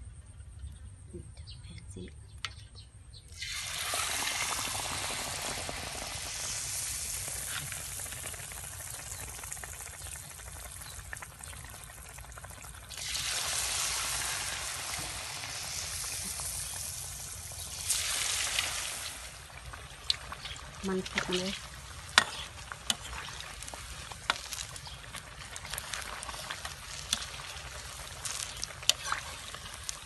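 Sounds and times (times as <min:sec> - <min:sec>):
batter deep-frying in oil: 0:01.9 - 0:30.0.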